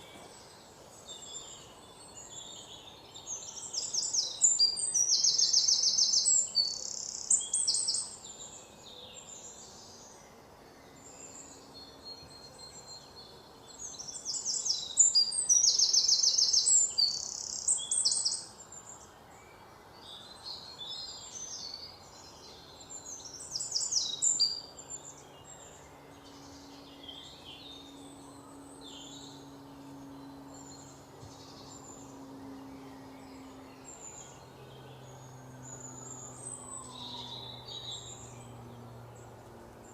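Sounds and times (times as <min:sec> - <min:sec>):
birds chirping: 0:00.0 - 0:10.4, 0:11.0 - 0:19.3, 0:20.0 - 0:39.9
faint low drone: 0:00.0 - 0:39.9.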